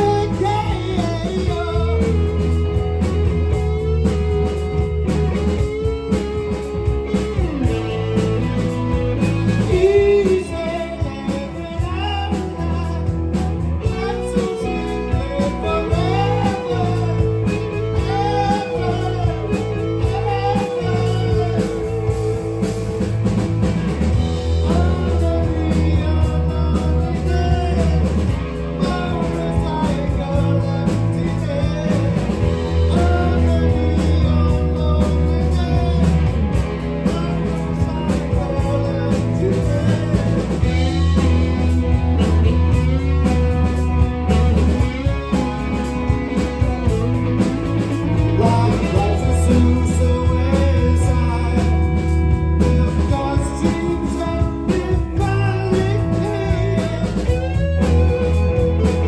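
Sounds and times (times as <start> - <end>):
lead vocals singing: 0.0 - 4.0, 4.6 - 59.0
live rock band playing: 0.0 - 59.0.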